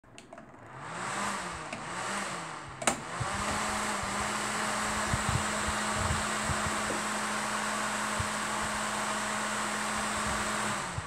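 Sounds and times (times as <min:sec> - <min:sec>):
microwave cooling fan running: 0:00.0 - 0:11.0.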